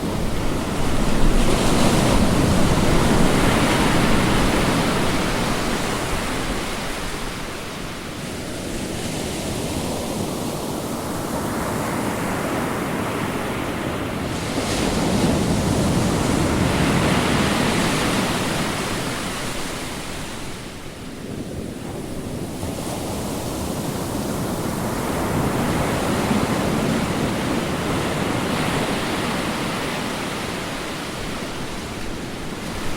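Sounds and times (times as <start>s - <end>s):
ocean waves washing on shore: 0.0s - 32.9s.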